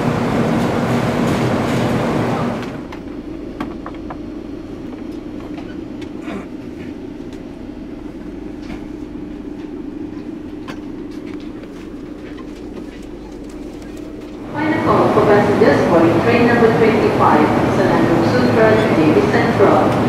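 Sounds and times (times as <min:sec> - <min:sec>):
coach air-conditioning hum: 0:00.0 - 0:20.0
standing train rumbling: 0:00.0 - 0:20.0.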